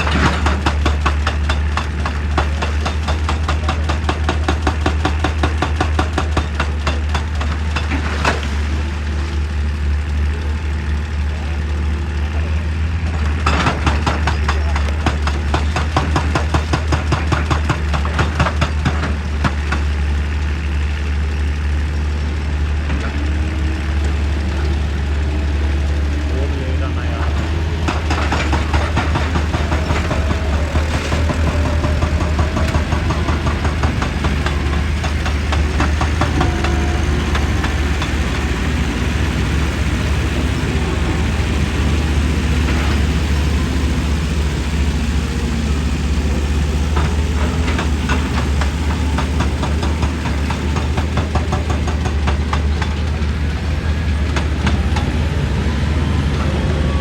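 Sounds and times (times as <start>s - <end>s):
hydraulic breaker hammering rock: 0.0s - 9.4s, 12.8s - 20.4s, 21.9s - 55.2s
excavator diesel engine running: 0.0s - 57.0s.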